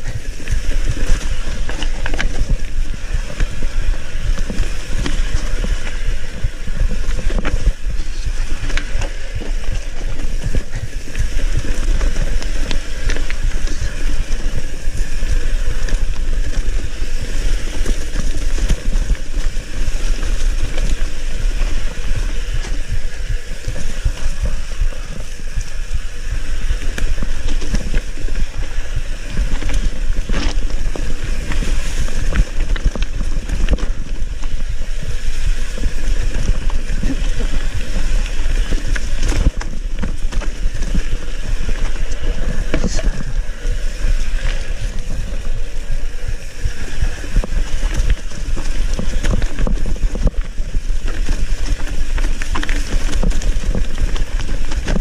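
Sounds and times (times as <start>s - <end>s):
bike rattling: 0.0s - 55.0s
bike tyres on dirt and stone: 0.0s - 55.0s
wind rumbling on microphone: 0.0s - 55.0s.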